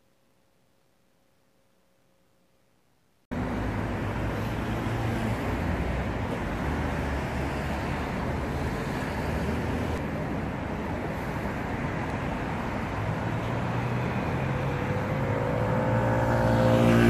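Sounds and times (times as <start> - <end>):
cars driving past: 3.3 - 17.0
road rumble: 3.3 - 17.0.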